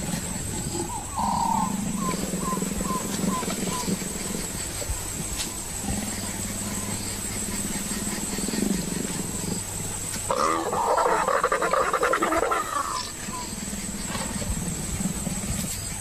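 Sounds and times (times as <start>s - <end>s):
leopards growling and snarling: 0.0s - 16.0s.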